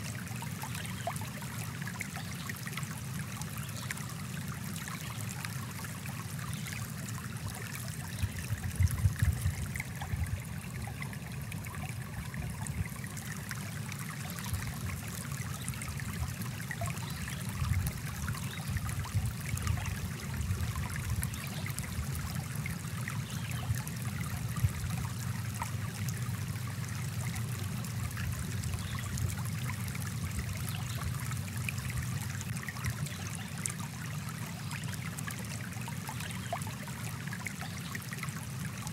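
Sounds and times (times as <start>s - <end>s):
brook flowing over rocks: 0.0s - 38.9s
water splashes: 0.0s - 38.9s.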